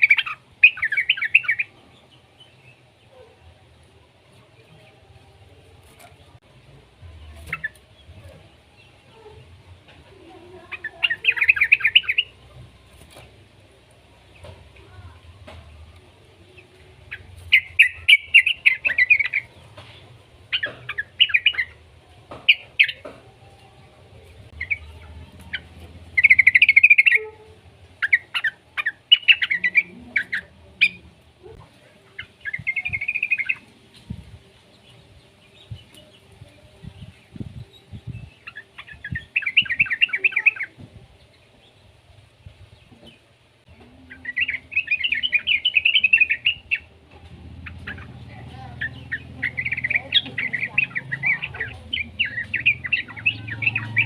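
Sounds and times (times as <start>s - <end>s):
bulbul chattering song: 0.0s - 3.1s, 4.5s - 42.0s, 43.6s - 54.0s.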